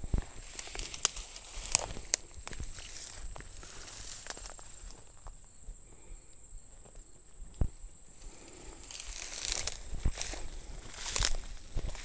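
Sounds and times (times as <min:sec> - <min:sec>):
footsteps crunching through dry weeds: 0:00.0 - 0:05.4, 0:06.8 - 0:12.0
insects trilling: 0:00.0 - 0:12.0.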